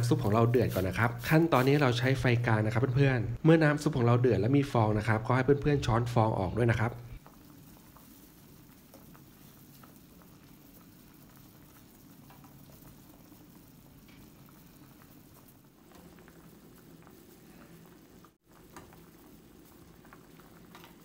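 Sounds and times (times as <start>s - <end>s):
soup bubbling at a rolling boil: 0.0s - 21.0s.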